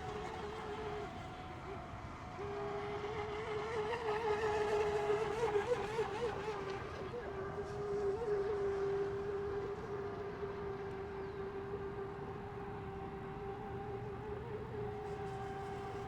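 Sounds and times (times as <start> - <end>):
model boat motors droning: 0.0 - 16.0.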